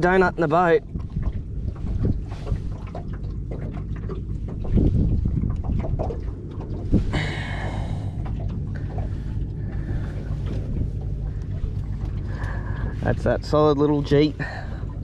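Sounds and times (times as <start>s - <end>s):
wind on microphone: 0.0s - 13.5s
steady low hum: 0.0s - 15.0s.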